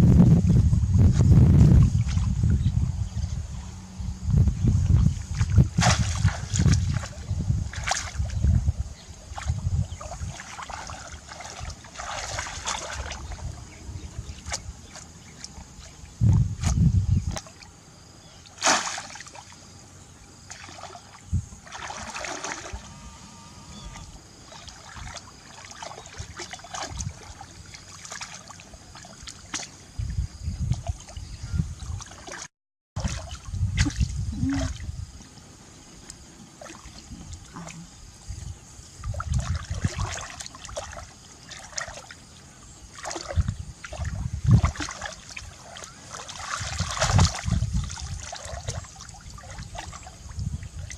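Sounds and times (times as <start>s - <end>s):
water splashing and sloshing: 1.8s - 2.6s, 4.8s - 50.9s.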